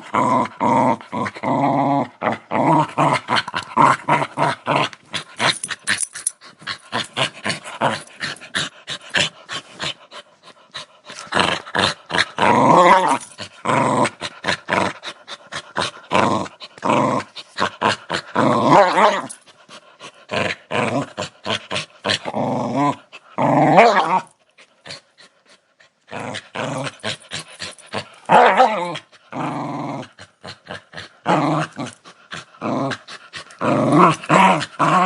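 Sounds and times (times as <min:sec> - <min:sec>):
dog growling: 0:00.0 - 0:25.4, 0:26.1 - 0:35.0.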